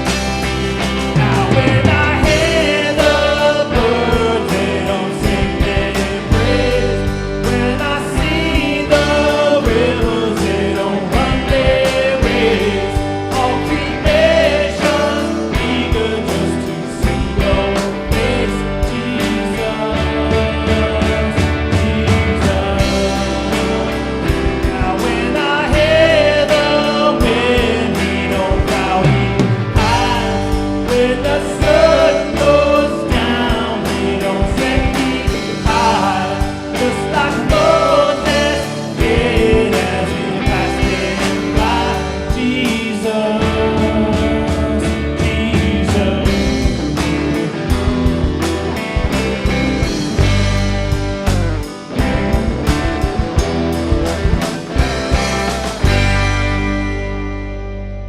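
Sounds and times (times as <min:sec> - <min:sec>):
worship song with full band: 0:00.0 - 0:58.0.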